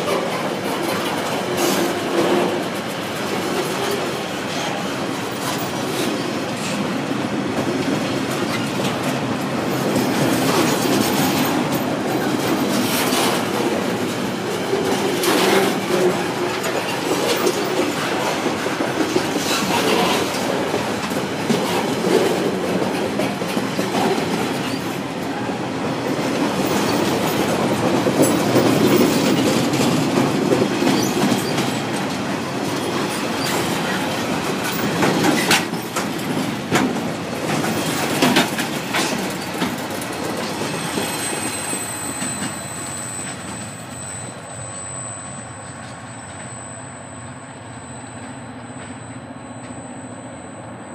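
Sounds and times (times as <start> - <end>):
train wheels clattering over rails: 0.0 - 45.0.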